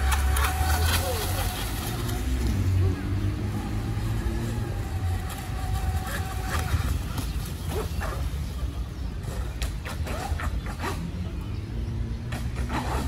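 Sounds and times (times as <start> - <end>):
model boat motor whine: 0.0 - 12.7.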